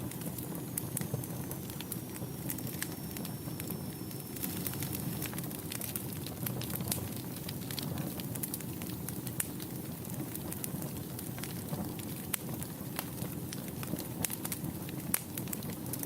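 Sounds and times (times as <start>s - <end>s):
fire crackling and popping: 0.0s - 16.0s
fire low rumble: 0.0s - 16.0s.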